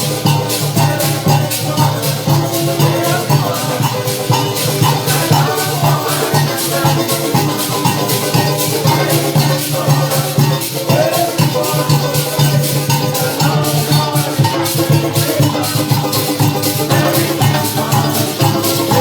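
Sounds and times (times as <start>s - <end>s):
shakers and percussion rhythm: 0.0s - 19.0s
strings playing melody: 0.0s - 19.0s.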